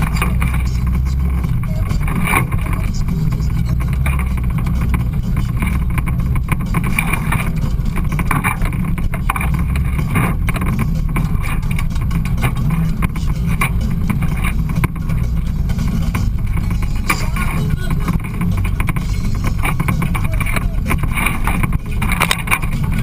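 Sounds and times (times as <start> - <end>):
knocks and rattles from bumps: 0.0 - 23.0
off-road vehicle engine rumbling: 0.0 - 23.0.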